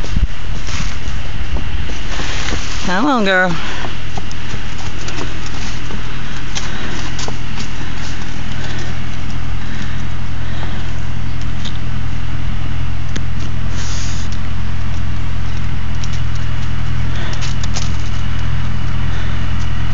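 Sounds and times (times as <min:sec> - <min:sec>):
engine running: 0:00.0 - 0:19.9.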